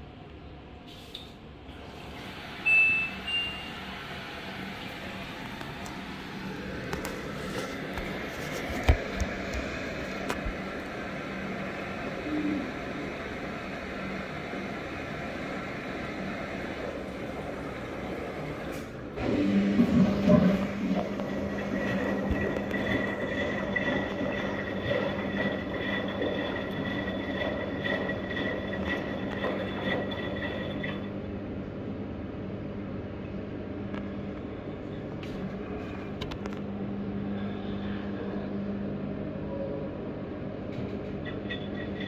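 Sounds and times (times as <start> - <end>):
washing machine hum: 0.0 - 42.0.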